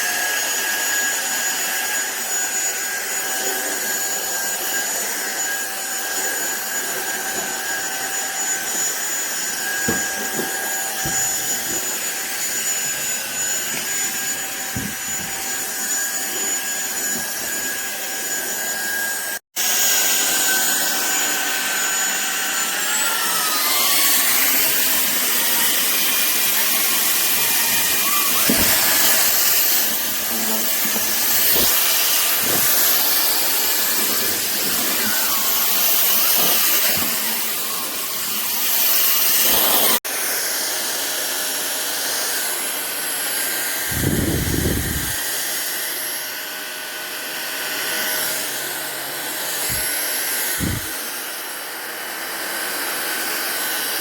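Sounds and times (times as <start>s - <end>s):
stick vacuum cleaner whine: 0.0s - 54.0s.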